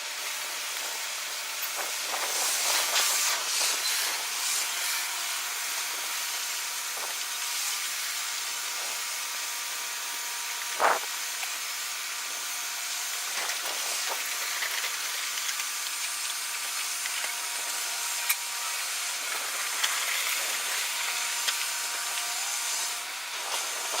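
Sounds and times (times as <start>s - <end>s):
steady machinery hiss: 0.0s - 24.0s.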